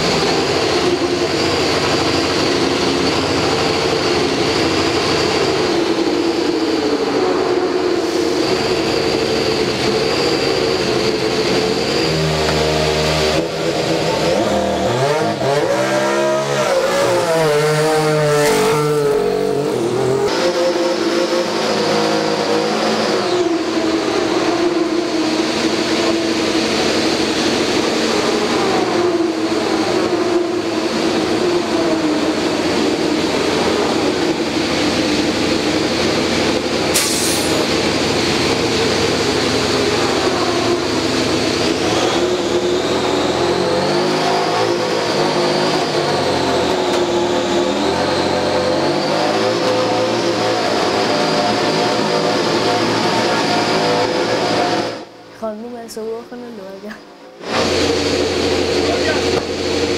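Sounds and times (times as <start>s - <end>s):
racing car engine idling and revving: 0.0s - 59.9s.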